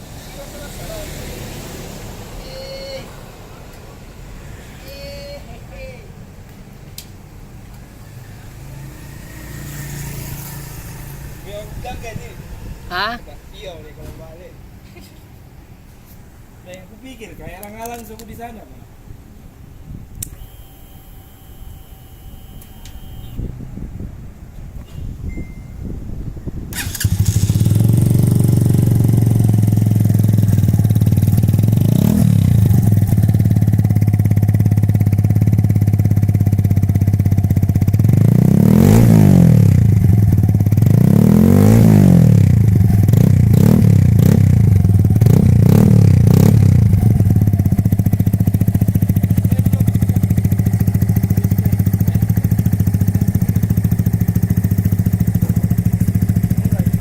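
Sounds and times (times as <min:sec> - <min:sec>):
motorcycle engine idling and revving: 0:00.0 - 0:05.4, 0:06.3 - 0:13.3, 0:20.5 - 0:57.0.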